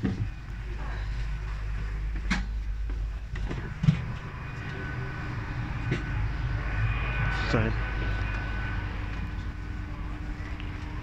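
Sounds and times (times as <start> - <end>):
train engine low rumble: 0.0 - 11.0
steady high tone: 0.3 - 11.0.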